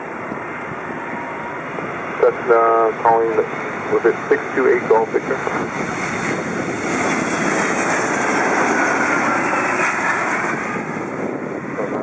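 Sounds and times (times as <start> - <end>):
jet airliner engine roar: 0.0 - 12.0.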